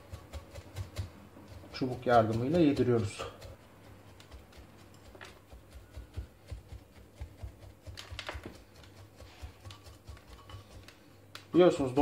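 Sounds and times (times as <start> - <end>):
chopstick tapping and scratching soil: 0.0 - 12.0.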